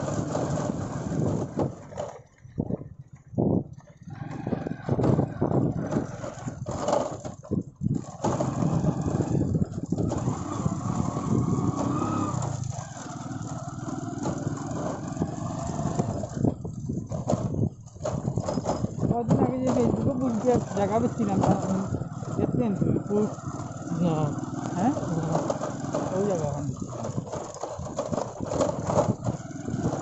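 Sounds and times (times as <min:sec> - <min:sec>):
motor engine running: 0:00.0 - 0:30.0.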